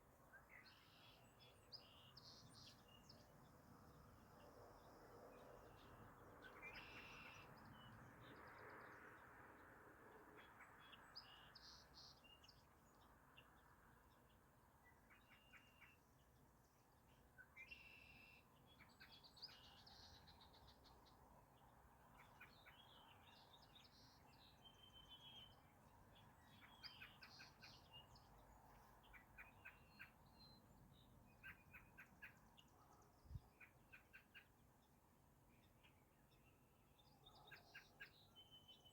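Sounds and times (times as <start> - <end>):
soft outdoor hiss: 0.0 - 38.9.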